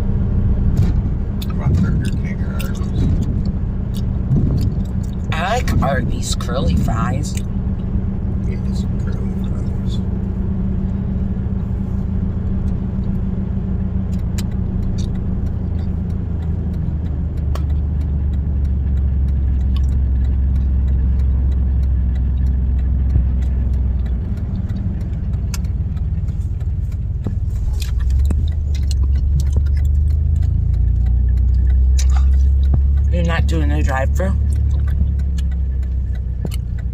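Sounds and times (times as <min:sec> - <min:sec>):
truck engine and road rumble: 0:00.0 - 0:36.9.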